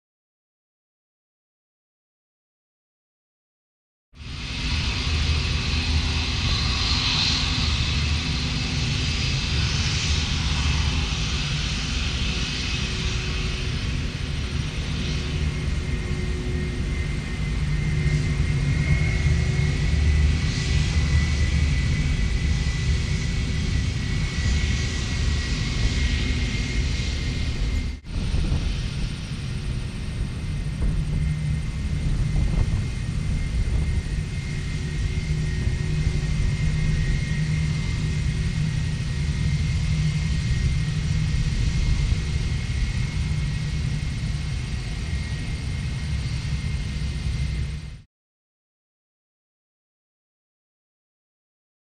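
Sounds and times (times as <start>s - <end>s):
jet engines taxiing: 4.2s - 48.0s.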